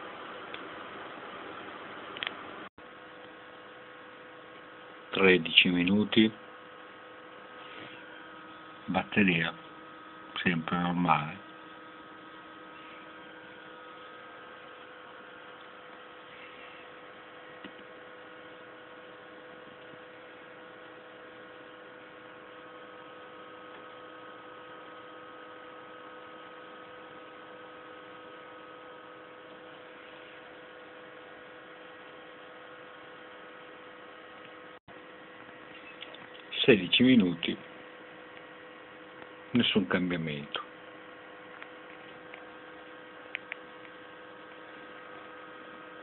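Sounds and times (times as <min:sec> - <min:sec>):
electrical hum with held tones: 0:00.0 - 0:46.0.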